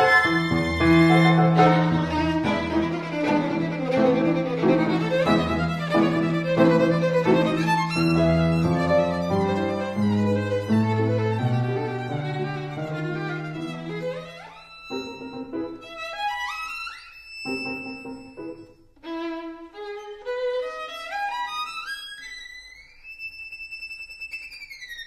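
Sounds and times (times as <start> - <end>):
bowed string instrument melody: 0.0 - 25.0.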